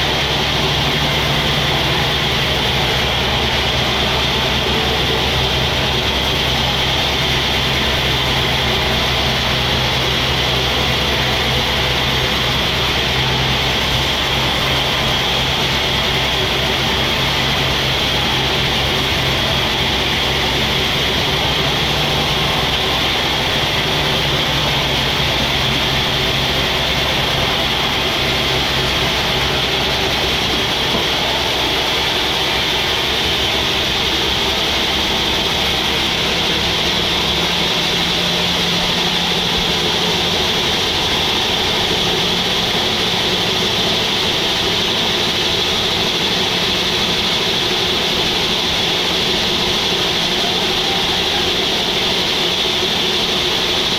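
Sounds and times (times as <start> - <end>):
band sawmill running: 0.0 - 53.9.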